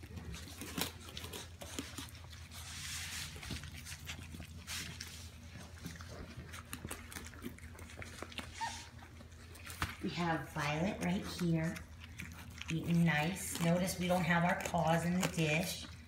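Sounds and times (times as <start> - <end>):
puppies lapping wet food: 0.0 - 16.0.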